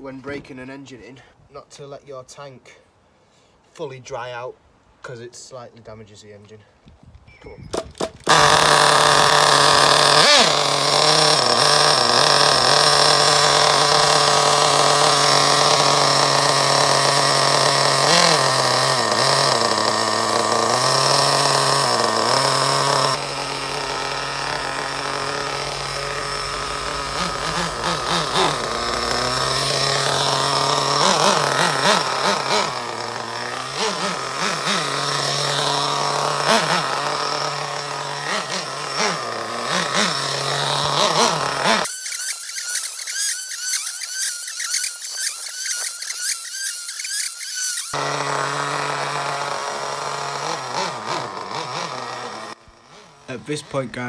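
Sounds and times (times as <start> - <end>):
small nitro engine running: 7.8 - 54.0.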